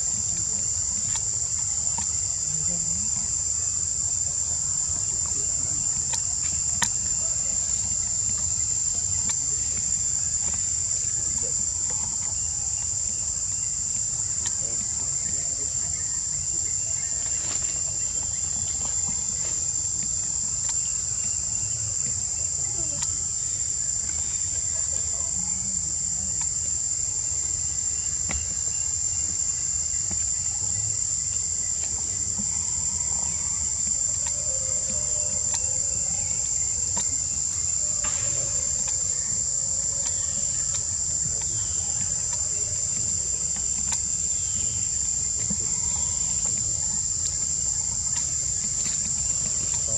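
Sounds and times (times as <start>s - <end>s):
shrill insect chorus: 0.0s - 49.9s.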